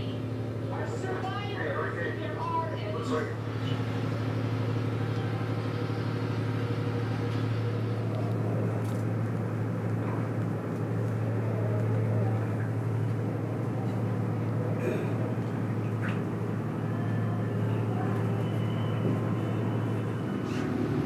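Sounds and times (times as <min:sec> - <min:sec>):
diesel engines droning: 0:00.0 - 0:21.0.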